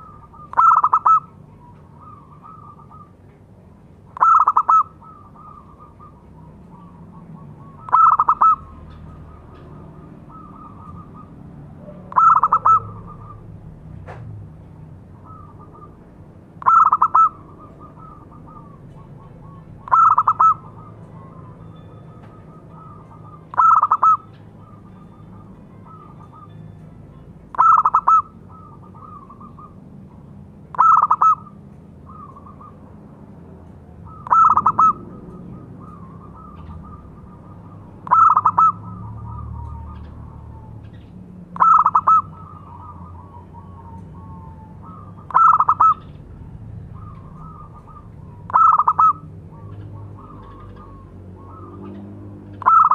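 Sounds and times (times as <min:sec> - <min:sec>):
dove cooing: 0:00.0 - 0:03.3, 0:04.0 - 0:14.0, 0:14.7 - 0:32.9, 0:33.9 - 0:52.9.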